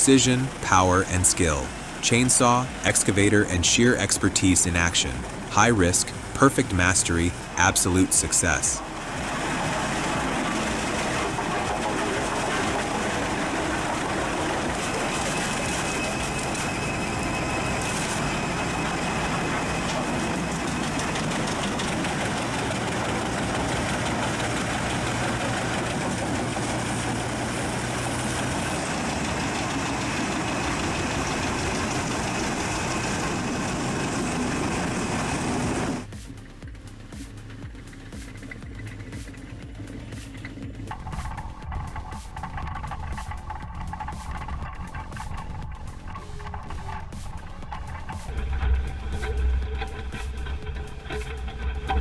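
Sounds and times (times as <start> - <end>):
heavy machinery engine running: 0.0 - 52.0.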